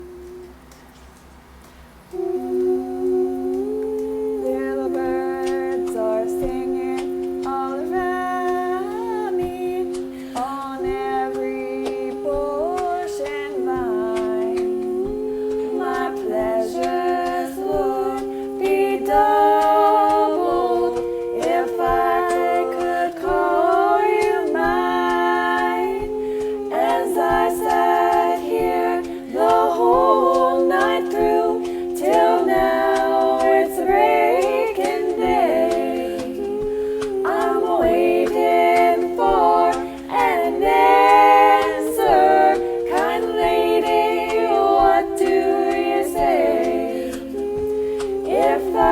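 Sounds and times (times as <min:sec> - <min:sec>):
voices singing in harmony: 0:00.0 - 0:48.9.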